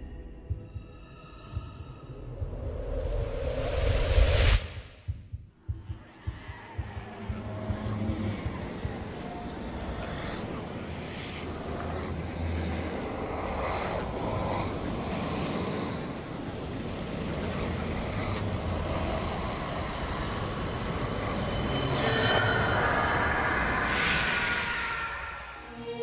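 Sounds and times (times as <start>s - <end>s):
music: 0.0s - 15.4s, 18.5s - 26.0s.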